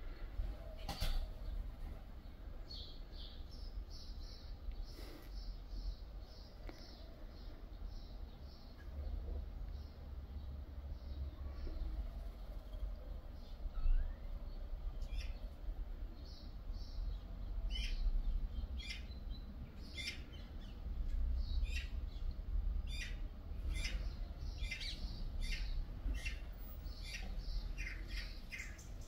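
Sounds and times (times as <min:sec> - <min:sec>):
bird chirping: 0:00.1 - 0:15.6, 0:16.2 - 0:29.0.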